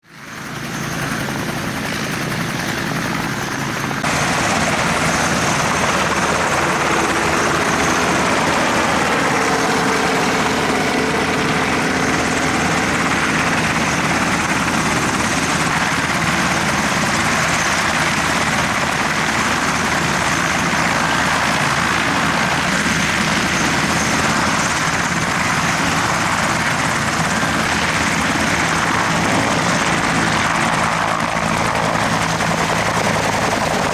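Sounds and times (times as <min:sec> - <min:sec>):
helicopter rotor chopping: 0:00.0 - 0:33.9.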